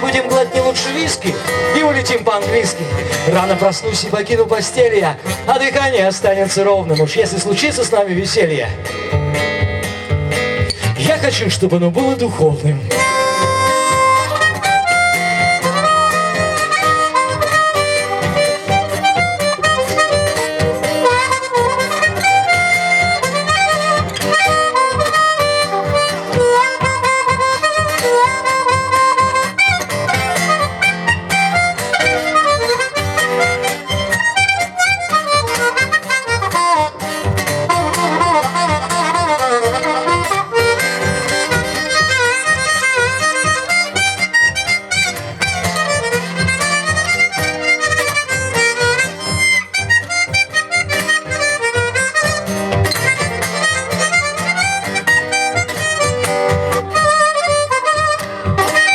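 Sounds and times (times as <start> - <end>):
harmonica bending melody: 0.0 - 58.9
strummed acoustic guitar: 0.0 - 58.9.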